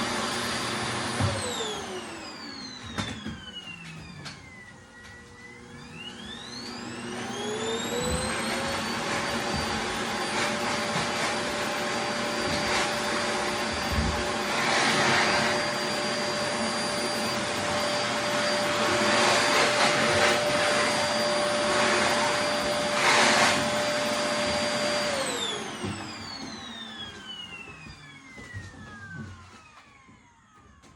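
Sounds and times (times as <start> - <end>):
vacuum cleaner running: 0.0 - 30.9
vacuum motor winding down: 0.0 - 30.9.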